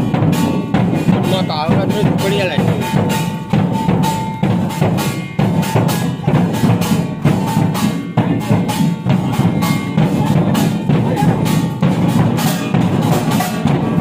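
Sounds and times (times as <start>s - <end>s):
hand drums beating: 0.0s - 14.0s.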